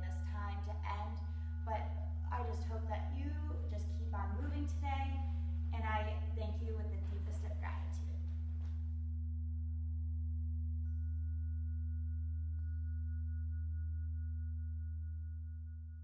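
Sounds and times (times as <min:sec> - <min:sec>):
steady low humming tone: 0:00.0 - 0:16.0.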